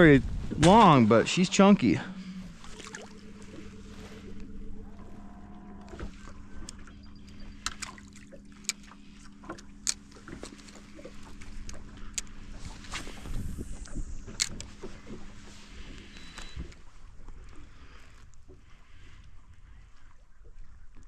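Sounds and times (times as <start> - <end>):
water splashing against hull: 0.0 - 20.7
boat motor humming: 0.0 - 21.0.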